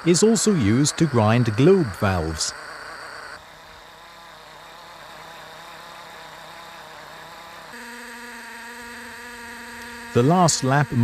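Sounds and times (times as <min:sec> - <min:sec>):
valve grinding machine motor hum: 0:00.0 - 0:11.0.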